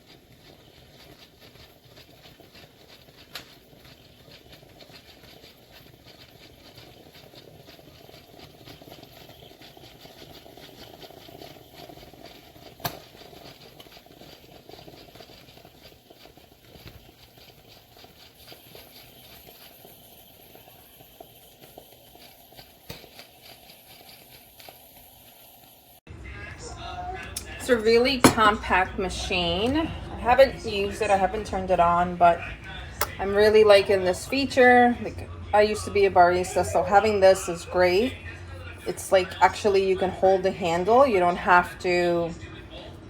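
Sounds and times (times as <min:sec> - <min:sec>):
espresso machine gurgling: 0:00.0 - 0:26.0, 0:27.2 - 0:43.0.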